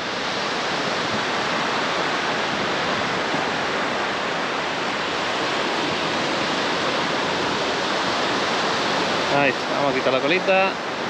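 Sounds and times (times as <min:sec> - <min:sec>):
sea surf breaking on beach: 0:00.0 - 0:11.0.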